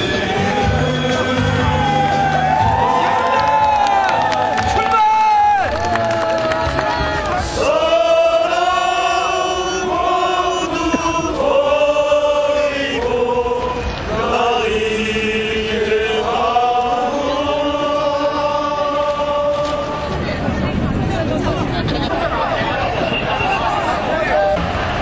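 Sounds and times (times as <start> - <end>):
crowd singing in unison: 0.0 - 3.2, 5.9 - 25.0.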